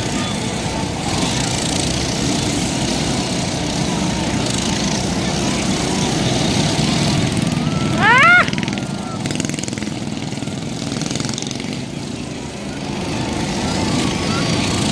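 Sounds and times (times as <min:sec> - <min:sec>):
small bike engines racing: 0:00.0 - 0:14.9.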